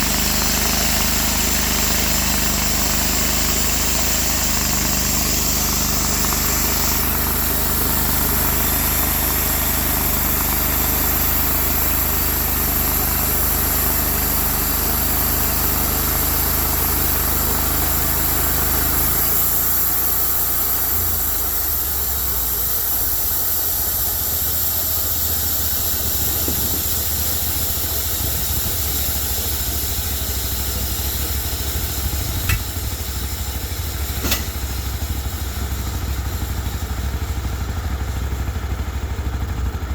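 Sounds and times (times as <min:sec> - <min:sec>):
hiss: 0:00.0 - 0:39.9
sawmill engine running: 0:00.0 - 0:39.9.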